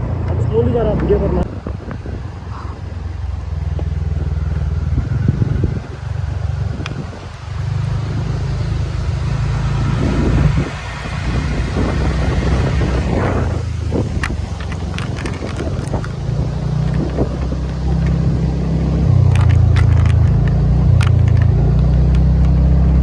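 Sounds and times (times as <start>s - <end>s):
road and wind noise: 0.0s - 23.0s
vehicle engine running: 0.0s - 23.0s.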